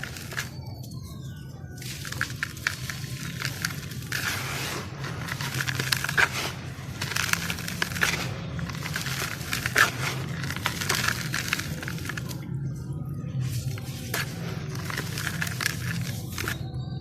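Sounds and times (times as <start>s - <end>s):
charcoal crushing and crackling: 0.0s - 17.0s
low steady hum: 0.0s - 17.0s.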